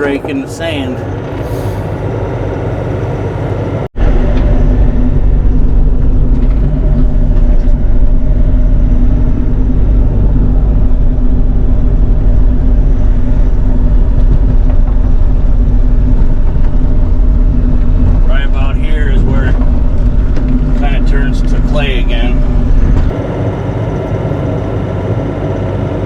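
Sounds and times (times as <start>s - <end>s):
mini excavator diesel engine droning: 0.0s - 26.0s.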